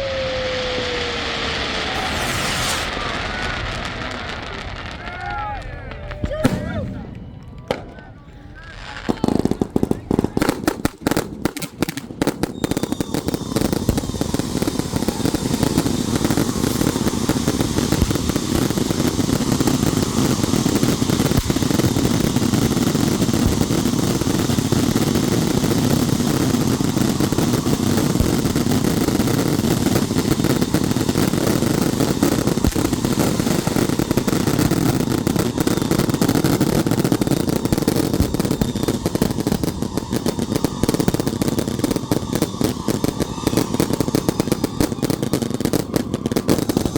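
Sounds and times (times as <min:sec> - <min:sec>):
firecrackers cracking: 0:00.0 - 0:46.9.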